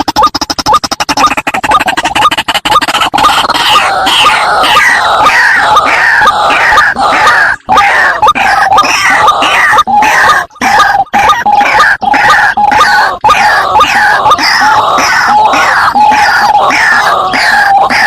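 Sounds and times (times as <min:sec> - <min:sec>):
waterhen harsh calls: 0:00.0 - 0:18.0.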